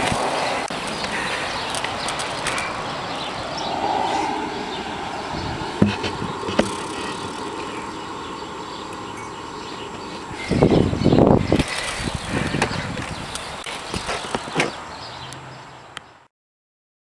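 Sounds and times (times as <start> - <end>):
outdoor background noise: 0.0 - 16.3.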